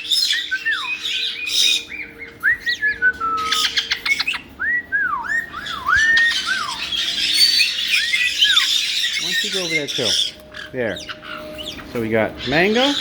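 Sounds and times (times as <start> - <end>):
parrot whistles swooping: 0.0 - 11.8.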